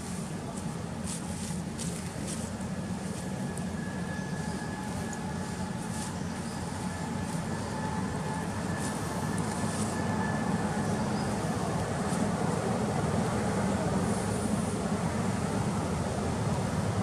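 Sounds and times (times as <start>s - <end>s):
faint thin whine: 0.0s - 16.0s
vehicle engine rumble: 0.0s - 17.0s.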